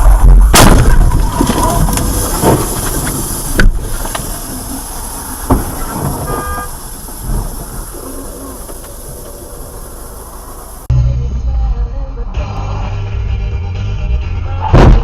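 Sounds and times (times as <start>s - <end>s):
vehicle road noise: 0.0s - 13.2s.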